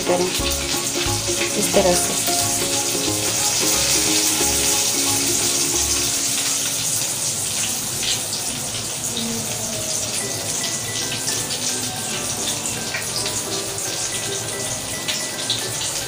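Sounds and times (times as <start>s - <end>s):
background music: 0.0s - 7.0s, 9.2s - 16.0s.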